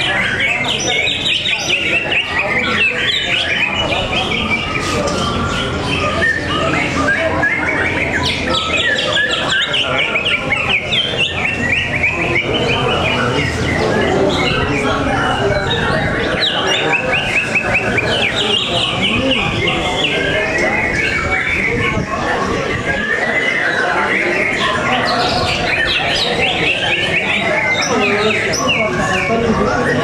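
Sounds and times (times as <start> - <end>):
caged songbirds singing: 0.0 - 30.0.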